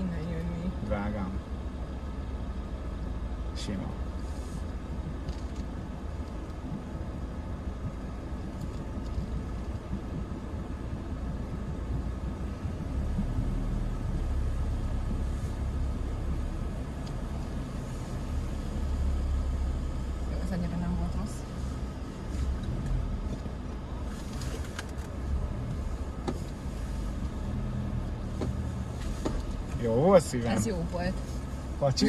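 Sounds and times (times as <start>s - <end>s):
car driving rumble from inside: 0.0s - 32.0s.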